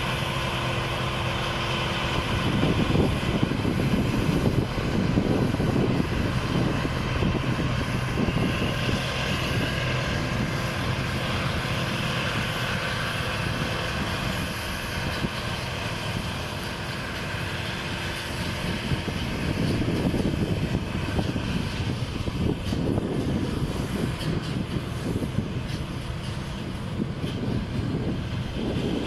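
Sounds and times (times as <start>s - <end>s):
combine harvester engine and threshing: 0.0s - 29.0s.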